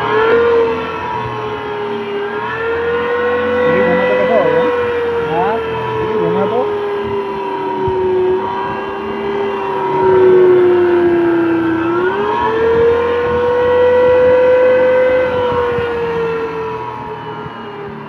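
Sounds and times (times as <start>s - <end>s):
hydraulic motor whining: 0.0s - 18.0s.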